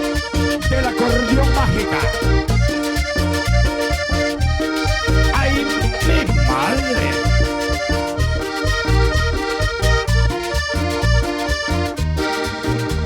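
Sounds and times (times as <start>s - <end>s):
accordion playing: 0.0s - 13.0s
bass and percussion beat: 0.0s - 13.0s.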